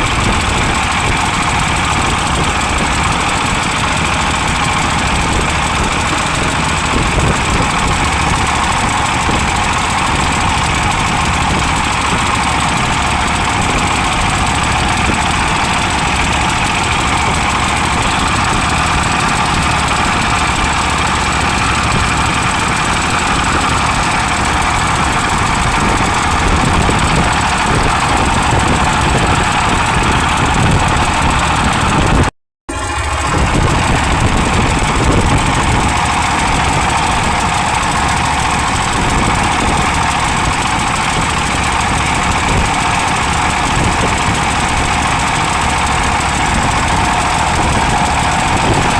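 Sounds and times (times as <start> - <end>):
strong wind on microphone: 0.0 - 48.9
vehicle engine running: 0.0 - 48.9.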